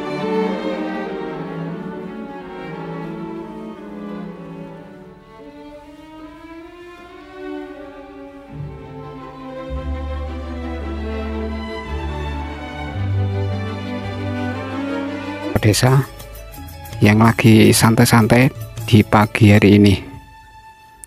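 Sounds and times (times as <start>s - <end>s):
slow held string notes: 0.0s - 21.0s.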